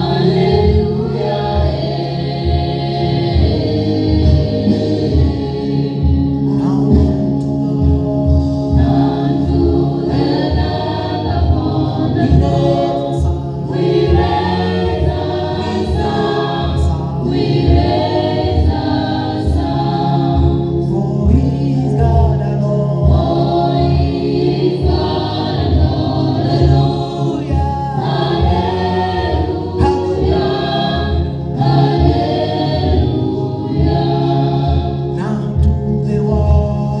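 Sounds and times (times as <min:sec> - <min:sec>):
band with bass and beat: 0:00.0 - 0:37.0
voices singing gospel song: 0:00.0 - 0:37.0.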